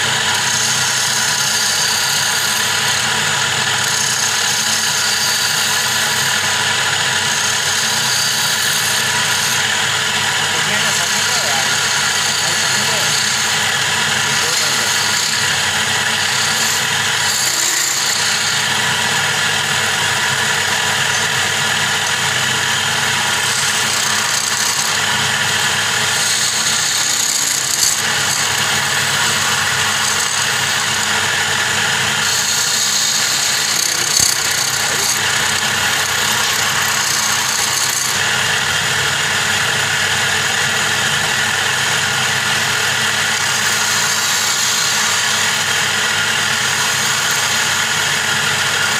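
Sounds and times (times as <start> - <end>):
chisel cutting spinning wood: 0.0 - 48.9
wood lathe motor running: 0.0 - 48.9.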